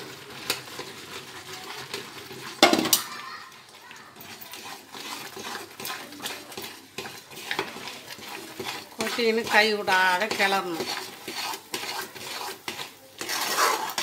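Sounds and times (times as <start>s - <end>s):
ladle scraping metal pan: 0.0s - 14.0s.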